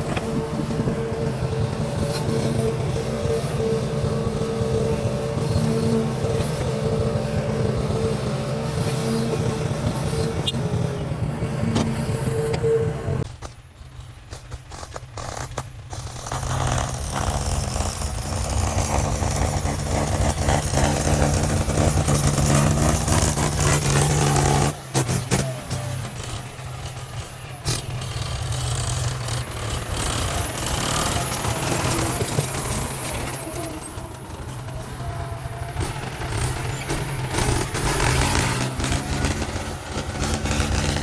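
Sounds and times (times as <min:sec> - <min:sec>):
heavy machinery engine running: 0:00.0 - 0:41.0.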